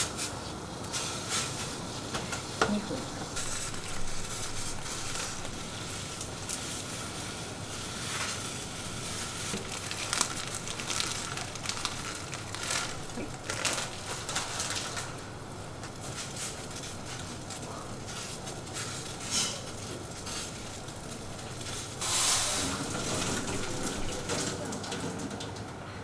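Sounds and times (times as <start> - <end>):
gas burner hiss: 0.0 - 24.5
water boiling and bubbling: 0.0 - 26.0.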